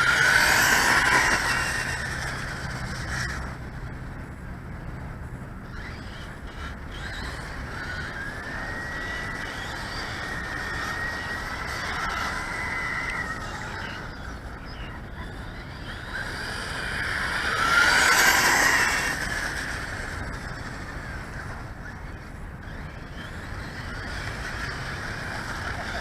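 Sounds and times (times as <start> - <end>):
electric toy car motor whining: 0.0 - 3.6, 5.7 - 26.0.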